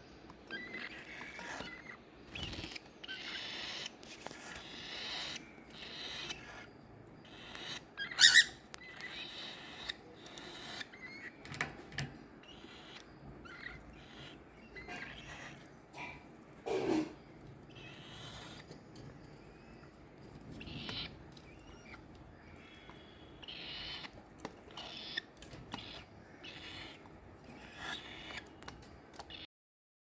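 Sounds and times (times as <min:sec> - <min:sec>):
chicks raspy begging calls: 0:00.4 - 0:11.4, 0:12.3 - 0:18.8, 0:19.5 - 0:28.6.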